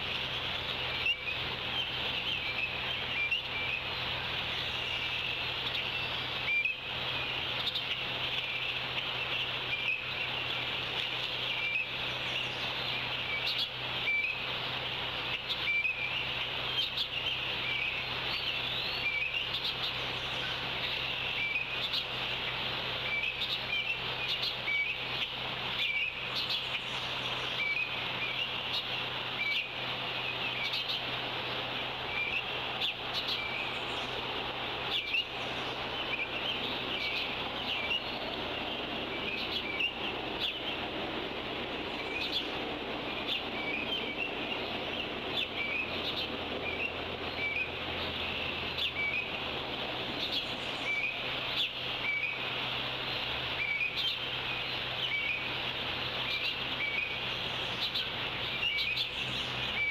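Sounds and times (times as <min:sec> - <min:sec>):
birds chirping: 0:00.0 - 0:59.9
low electrical hum: 0:00.0 - 0:59.9
steady high hiss: 0:00.0 - 0:59.9.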